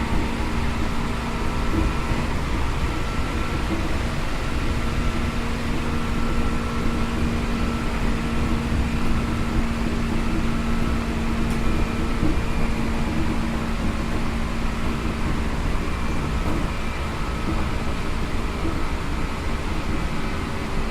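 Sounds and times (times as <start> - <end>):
traction equipment hum: 0.0 - 20.9
train wheels rumbling on rails: 0.0 - 20.9.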